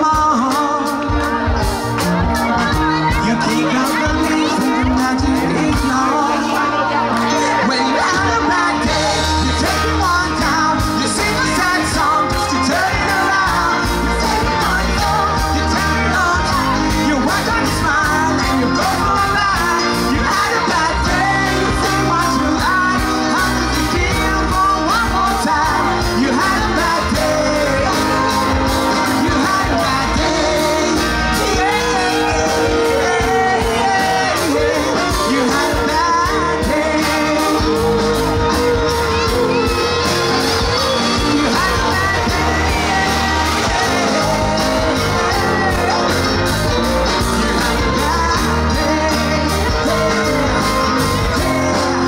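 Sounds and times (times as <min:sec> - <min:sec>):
live band playing: 0:00.0 - 0:52.0
man singing into microphone: 0:00.0 - 0:52.0.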